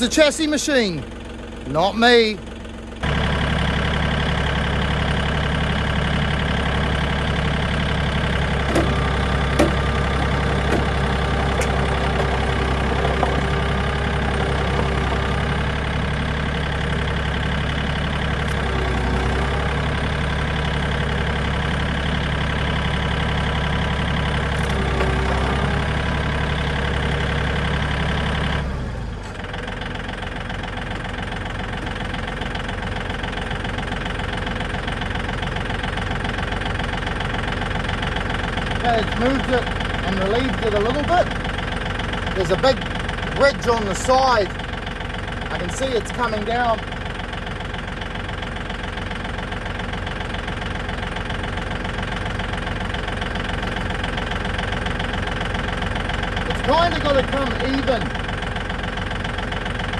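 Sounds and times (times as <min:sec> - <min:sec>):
tractor engine under load: 0:00.0 - 0:59.9.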